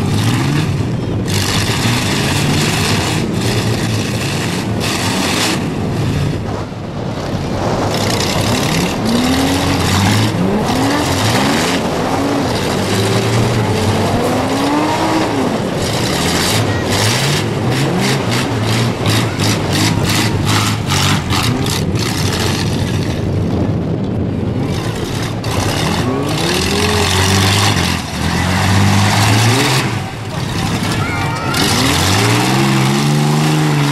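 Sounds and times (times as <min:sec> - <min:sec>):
loud steady din: 0:00.0 - 0:33.9
van engines revving: 0:00.0 - 0:33.9.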